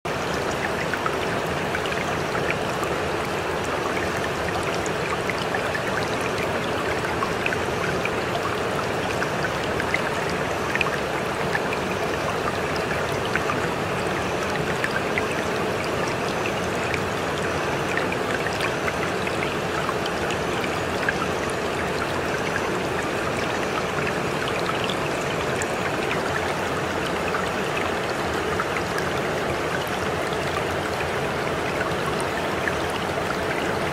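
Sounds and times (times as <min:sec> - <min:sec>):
running water in a stream: 0:00.0 - 0:33.9
small splashes and drips: 0:00.1 - 0:33.9.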